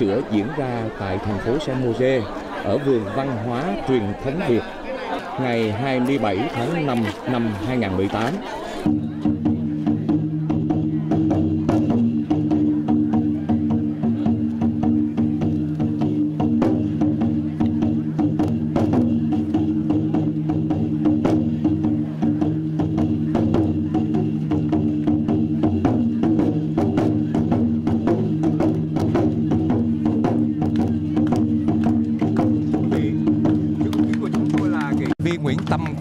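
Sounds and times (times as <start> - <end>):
quick dense percussion: 5.4 - 36.0.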